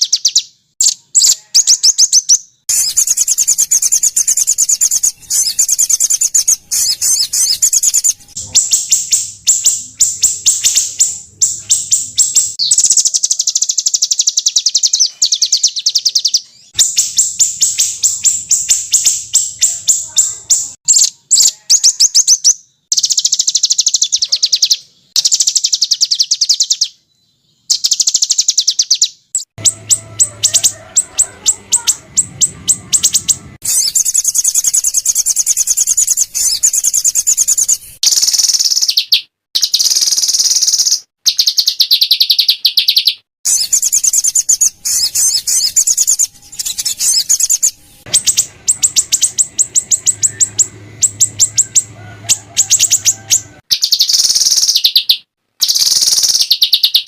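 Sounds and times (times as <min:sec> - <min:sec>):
songbirds trilling and chattering: 0:00.0 - 0:57.0.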